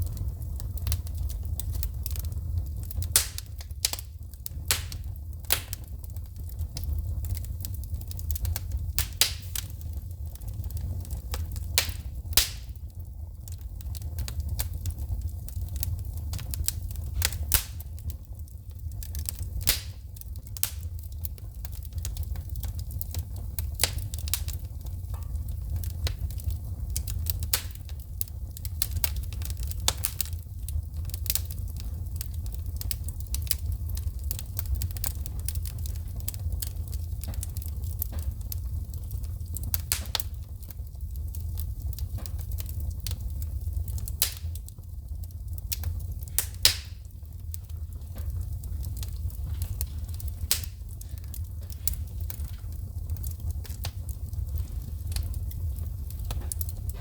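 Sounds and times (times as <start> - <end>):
sharp snaps of sparks: 0.0 - 44.8, 45.7 - 57.0
logs crackling in fireplace: 0.0 - 57.0.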